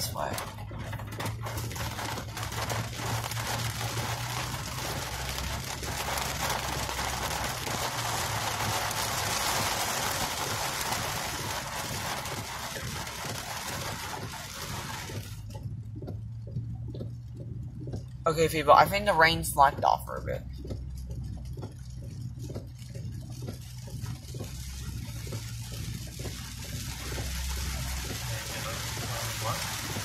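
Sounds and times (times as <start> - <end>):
car cabin hum: 0.0 - 30.0
heavy rain drumming on car roof: 0.0 - 30.0.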